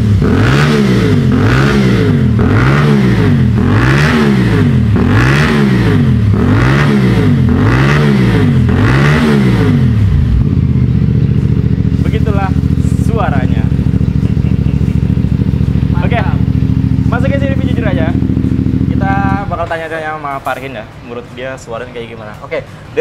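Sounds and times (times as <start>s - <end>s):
motorcycle engine idling: 0.0s - 20.7s
motorcycle engine revving: 0.0s - 20.7s.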